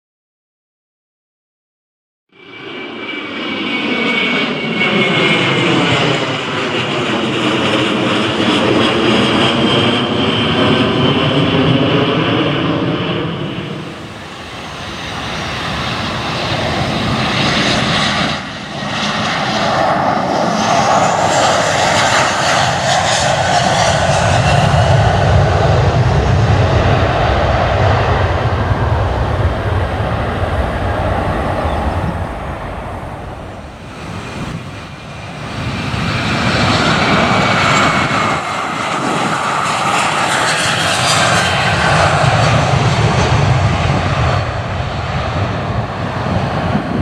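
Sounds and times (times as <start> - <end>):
jet engines passing by: 2.4 - 47.0.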